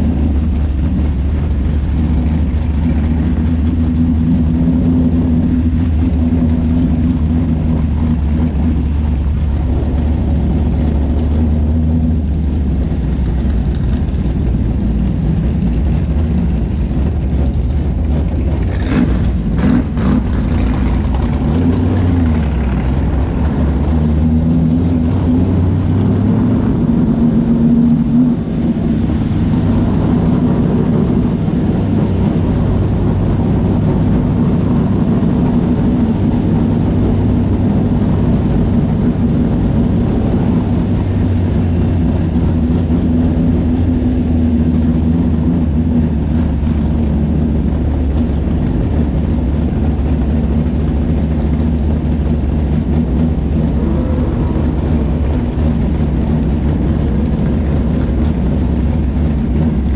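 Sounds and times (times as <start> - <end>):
race car engine at low revs: 0.0 - 59.9.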